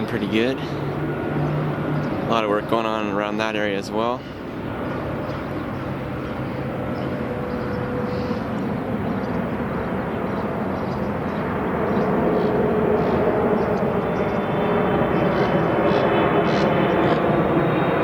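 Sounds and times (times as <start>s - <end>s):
airplane flying low overhead: 0.0s - 18.0s.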